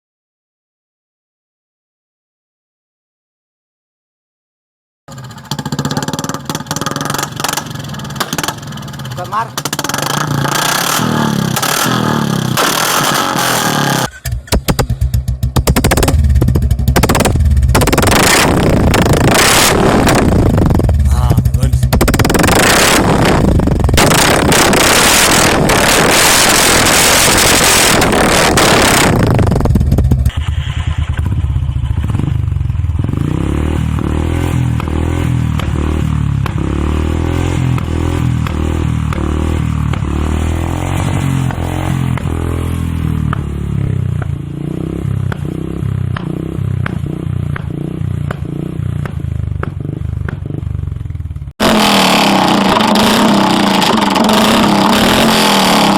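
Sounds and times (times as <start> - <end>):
motorcycle engine running: 5.1 - 55.9.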